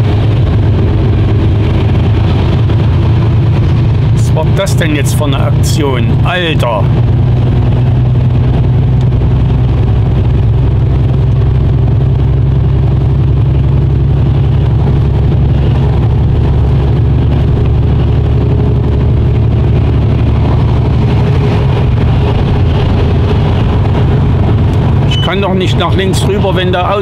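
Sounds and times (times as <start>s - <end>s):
diesel engine drone: 0.0s - 27.0s
tyres on wet road: 0.0s - 27.0s.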